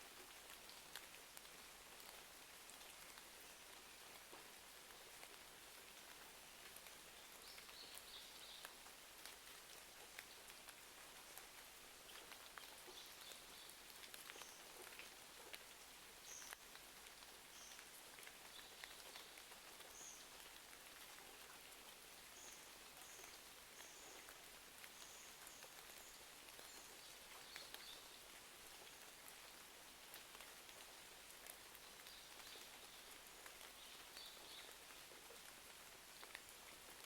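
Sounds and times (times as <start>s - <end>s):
faint rain: 0.0s - 37.0s
small crackles and ticks: 0.0s - 37.0s.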